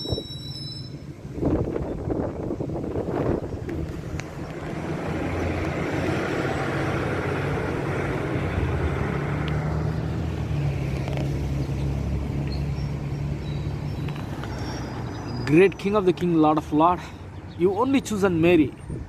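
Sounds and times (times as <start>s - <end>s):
rushing air and road noise: 0.0s - 19.0s
vehicle engine hum: 0.0s - 19.0s.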